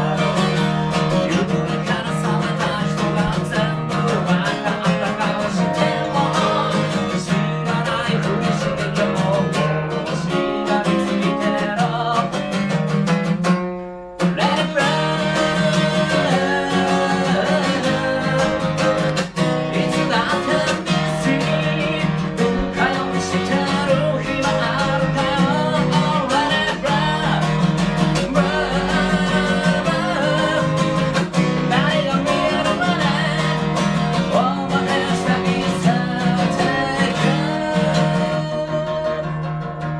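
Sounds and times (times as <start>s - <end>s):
man singing: 0.0s - 13.0s, 14.2s - 39.9s
strummed acoustic guitar: 0.0s - 39.9s.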